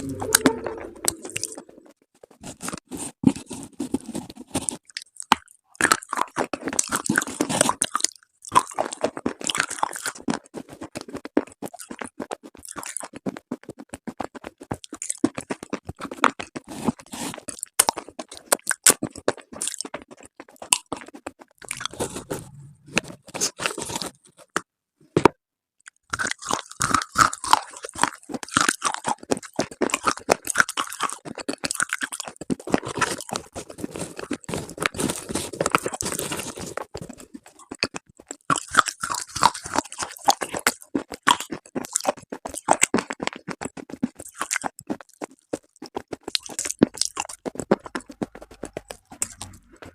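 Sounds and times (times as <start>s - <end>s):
slate and chalk crunching in paste: 2.2s - 24.7s, 26.1s - 49.9s.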